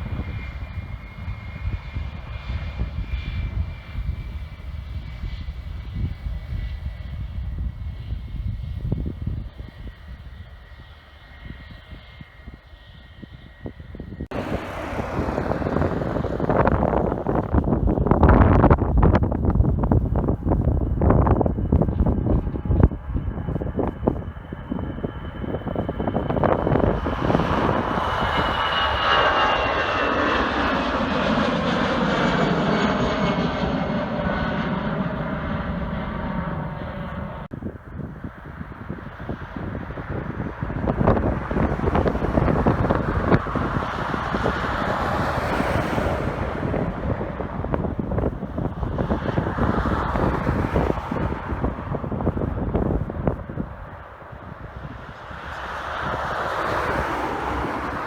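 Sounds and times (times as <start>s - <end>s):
jet engines rumbling: 0.0s - 58.0s
wind gusting on microphone: 0.0s - 58.0s.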